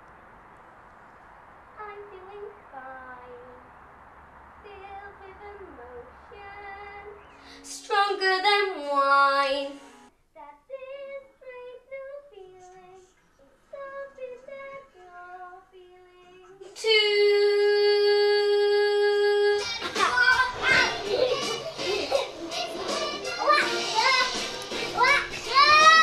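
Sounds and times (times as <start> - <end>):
girl singing: 1.8 - 3.6, 4.6 - 26.0.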